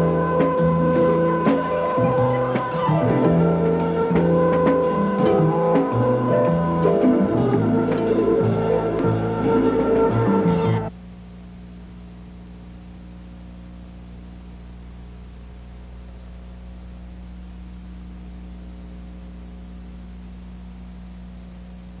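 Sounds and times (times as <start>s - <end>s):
electrical mains hum: 0.0s - 22.0s
tape hiss: 0.0s - 22.0s.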